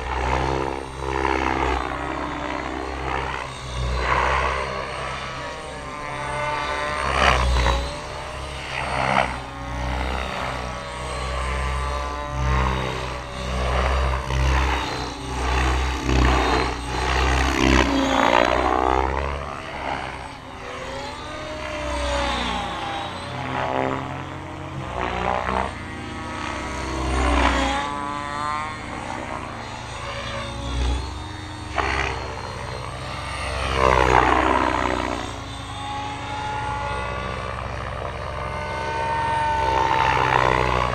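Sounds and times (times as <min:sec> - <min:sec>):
rc helicopter rotor and motor: 0:00.0 - 0:40.9.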